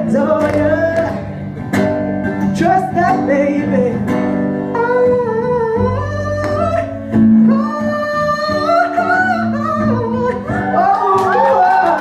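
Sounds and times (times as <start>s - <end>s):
person singing: 0.0s - 1.3s, 2.5s - 12.0s.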